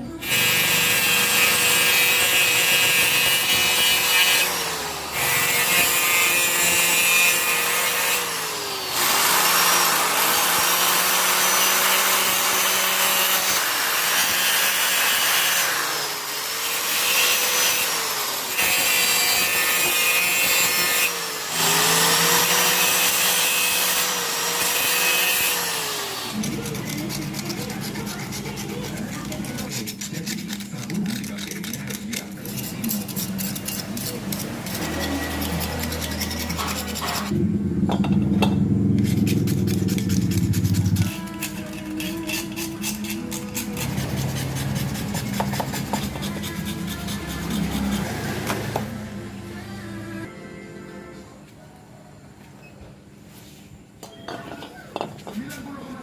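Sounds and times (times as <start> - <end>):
power tool grinding steel: 0.2 - 37.4, 38.8 - 49.0.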